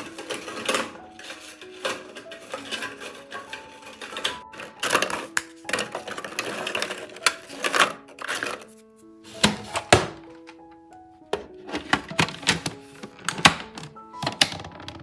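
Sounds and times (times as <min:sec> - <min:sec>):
background music: 0:00.0 - 0:15.0
crackers cracking and clattering: 0:00.0 - 0:15.0.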